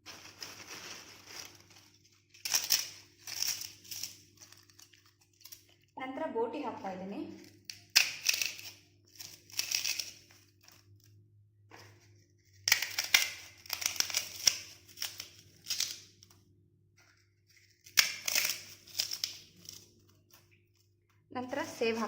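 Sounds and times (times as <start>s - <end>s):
dry snacks crackling in a bowl: 0.0s - 6.0s, 6.7s - 11.2s, 12.0s - 16.5s, 17.4s - 22.0s.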